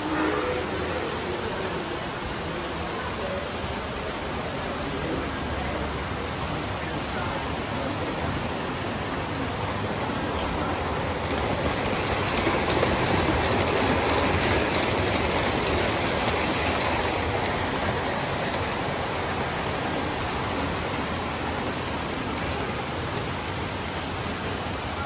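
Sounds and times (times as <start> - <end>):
model trains rolling on track: 0.0 - 25.0.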